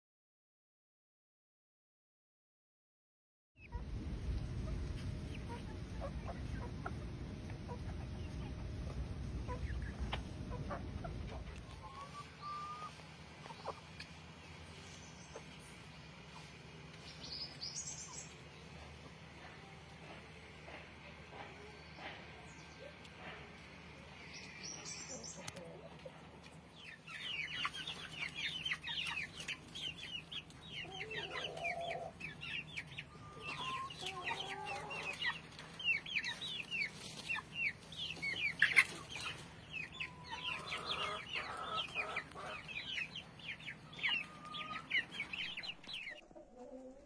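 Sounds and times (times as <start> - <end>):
chicken clucks: 3.6 - 47.0
chickens peeping: 3.6 - 47.0.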